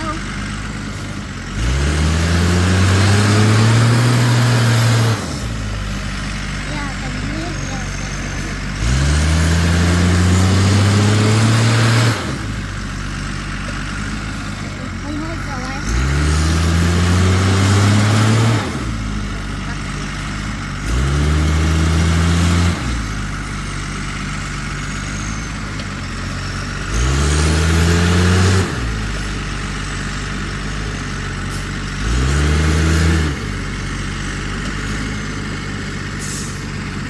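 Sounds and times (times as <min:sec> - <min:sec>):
diesel engine idling and revving: 0:00.0 - 0:37.0.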